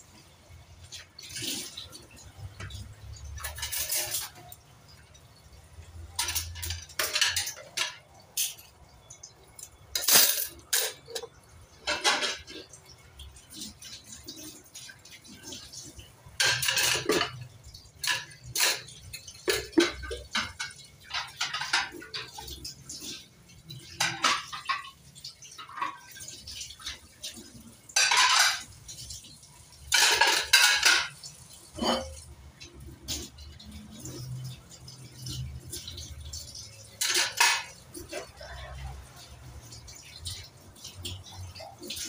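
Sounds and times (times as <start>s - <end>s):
running water gushes: 0.0s - 42.0s
dishes clattering in a sink: 0.1s - 42.0s.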